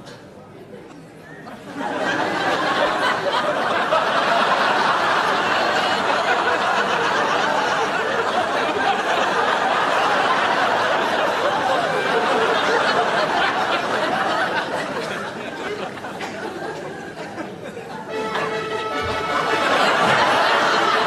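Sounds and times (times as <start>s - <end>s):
audience laughing: 1.3s - 21.0s.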